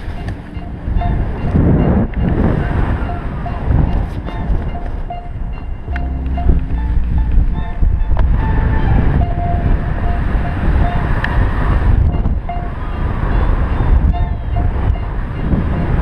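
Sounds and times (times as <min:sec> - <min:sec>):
wind buffeting microphone: 0:00.0 - 0:16.0
short steady beeps: 0:00.1 - 0:11.2, 0:12.1 - 0:16.0.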